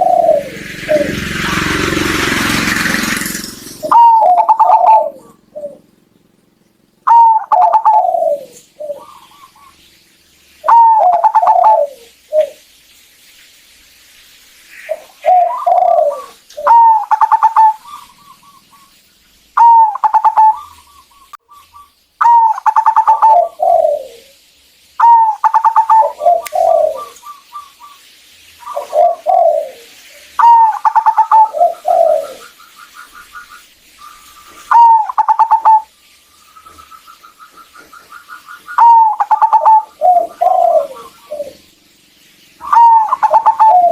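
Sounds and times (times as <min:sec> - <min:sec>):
dove cooing: 0:00.0 - 0:09.9, 0:10.6 - 0:12.6, 0:14.8 - 0:18.9, 0:19.6 - 0:21.6, 0:22.2 - 0:24.4, 0:25.0 - 0:27.7, 0:28.6 - 0:35.9, 0:36.7 - 0:41.7, 0:42.6 - 0:43.9.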